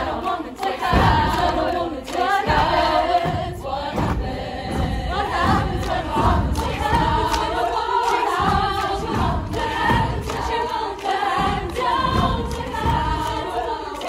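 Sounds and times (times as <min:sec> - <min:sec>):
girls choir singing in harmony: 0:00.0 - 0:14.0
sharp percussive hits: 0:00.0 - 0:14.0.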